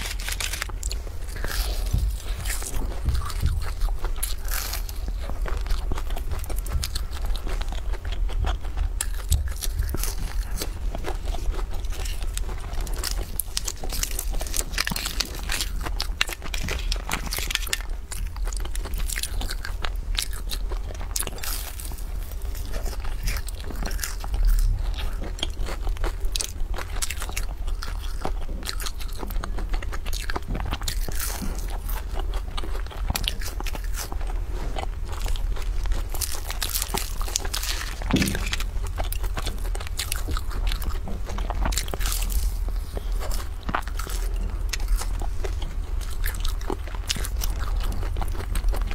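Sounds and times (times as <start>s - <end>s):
chewing crunchy pastry: 0.0s - 48.9s.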